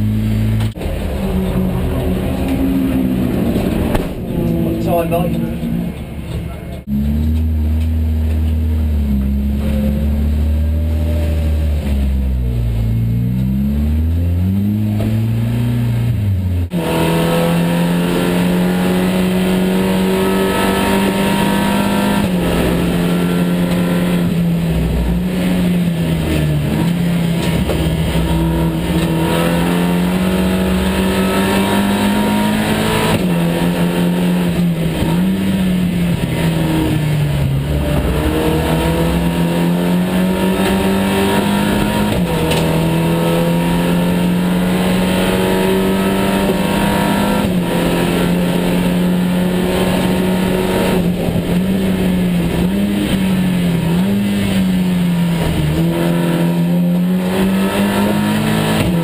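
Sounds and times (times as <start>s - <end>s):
race car engine from inside cabin: 0.0s - 59.0s.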